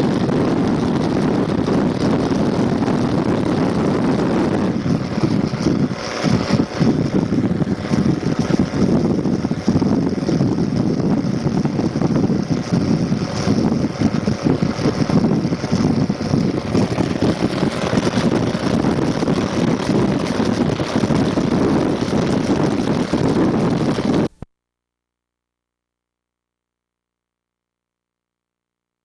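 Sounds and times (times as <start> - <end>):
wind buffeting microphone: 0.0 - 24.3.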